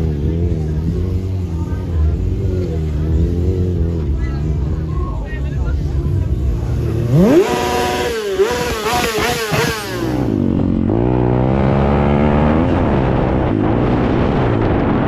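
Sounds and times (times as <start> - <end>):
sportbike engine revving high: 0.0 - 4.9, 5.7 - 14.6
dirt bike engine running: 0.0 - 15.0.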